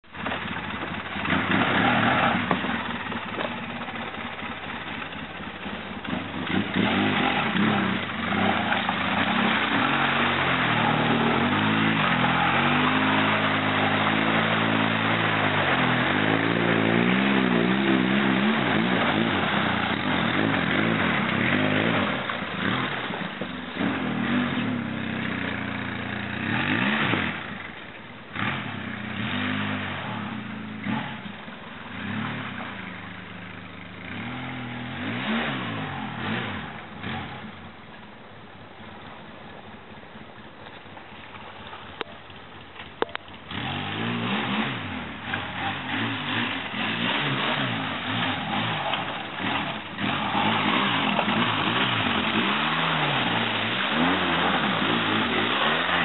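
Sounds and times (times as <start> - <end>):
atv engine revving: 0.0 - 56.0
splashing mud and water: 0.1 - 37.8, 38.8 - 56.0.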